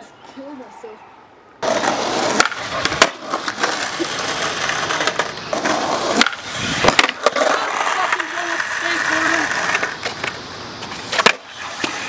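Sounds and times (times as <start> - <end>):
skateboard clacking: 1.6 - 12.0
skateboard wheels rolling on concrete: 1.6 - 12.0.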